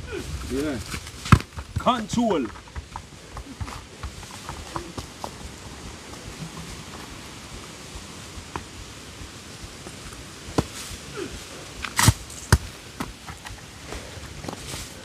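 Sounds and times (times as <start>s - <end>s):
quiet rustling: 0.2s - 15.0s
sharp knocks and thuds: 0.4s - 15.0s.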